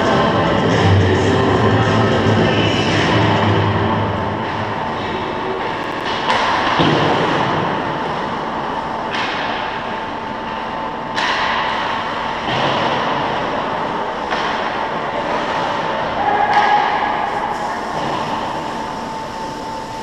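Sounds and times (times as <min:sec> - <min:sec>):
constant mid-pitched tone: 0:00.0 - 0:16.0, 0:16.6 - 0:20.0
steady noisy rumble: 0:00.0 - 0:20.0.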